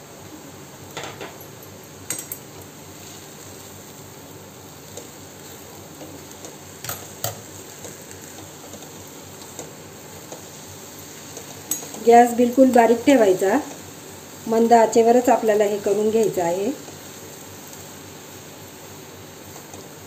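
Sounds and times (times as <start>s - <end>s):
food sizzling in hot fat: 0.0s - 20.0s.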